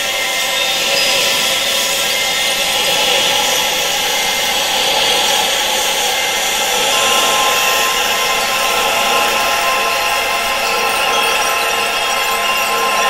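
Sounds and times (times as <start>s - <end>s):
steady high tones: 0.0s - 13.0s.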